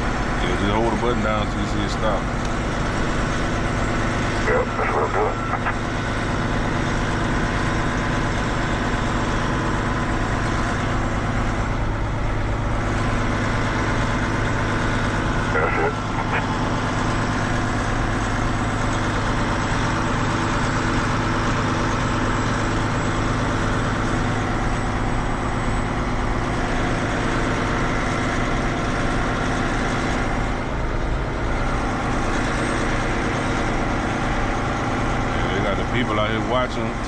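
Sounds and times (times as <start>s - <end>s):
diesel truck engine droning: 0.0s - 37.0s.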